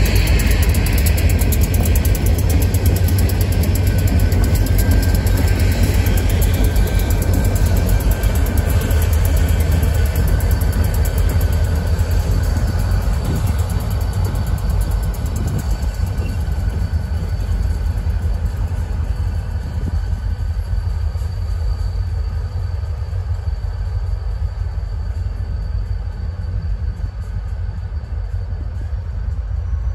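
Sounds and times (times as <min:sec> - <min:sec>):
diesel locomotives rumbling: 0:00.0 - 0:29.9.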